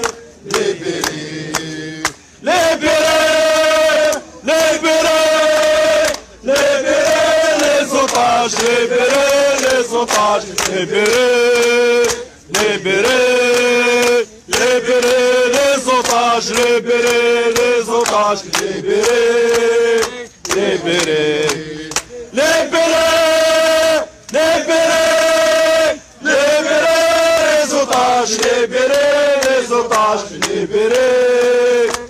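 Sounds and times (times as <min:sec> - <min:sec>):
crowd of men chanting: 0:00.0 - 0:32.0.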